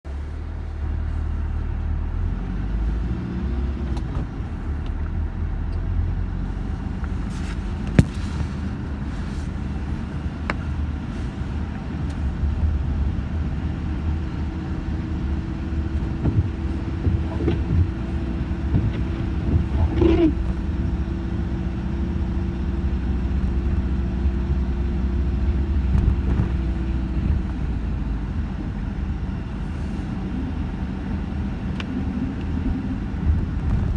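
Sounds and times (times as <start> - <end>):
motor vehicle rumbling: 0.0 - 33.9.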